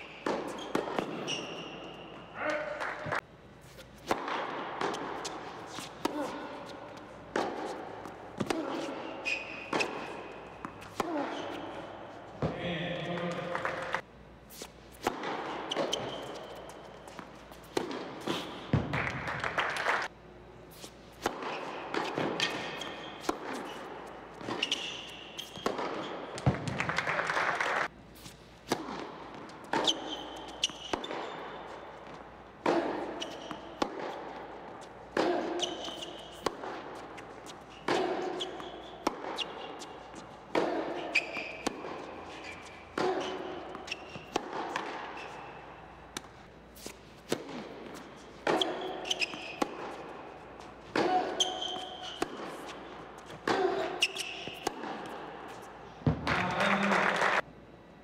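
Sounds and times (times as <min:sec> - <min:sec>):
tennis ball bouncing on court: 0:00.0 - 0:14.0, 0:14.6 - 0:19.8, 0:21.1 - 0:27.1, 0:28.2 - 0:56.9
racquets striking tennis ball: 0:00.0 - 0:20.2, 0:21.0 - 0:56.9.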